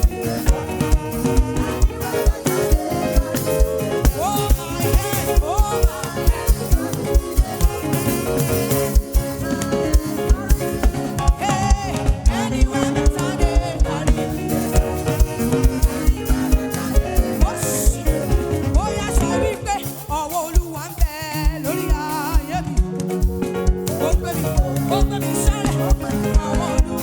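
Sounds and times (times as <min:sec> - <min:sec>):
gospel band playing upbeat groove: 0:00.0 - 0:27.0.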